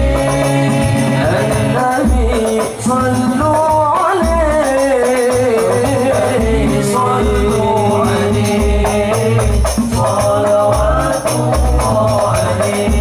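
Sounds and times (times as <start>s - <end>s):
frame drums rhythm: 0.0s - 13.0s
men singing into microphones: 0.0s - 13.0s.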